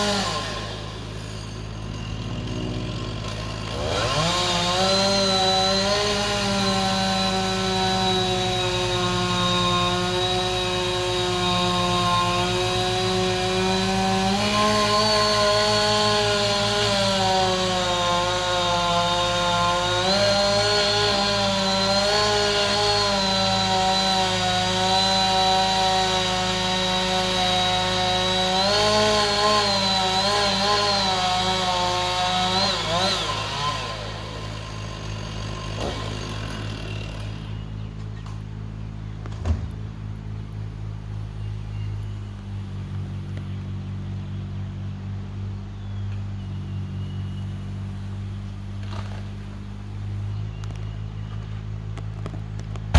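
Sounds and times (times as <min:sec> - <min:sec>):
chainsaw cutting wood: 0:00.0 - 0:40.0, 0:48.2 - 0:50.8.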